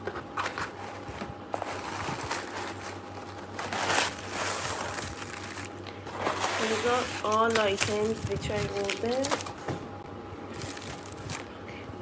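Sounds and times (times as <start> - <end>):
package wrapping rustling: 0.2 - 9.7, 10.5 - 11.5.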